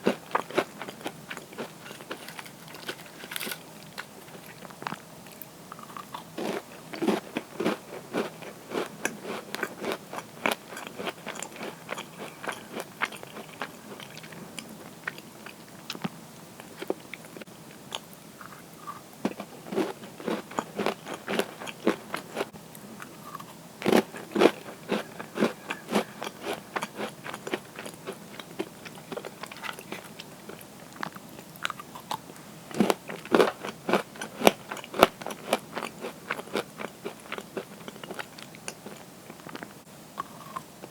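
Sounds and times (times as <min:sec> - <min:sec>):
crunching and chewing cookies: 0:00.0 - 0:40.9.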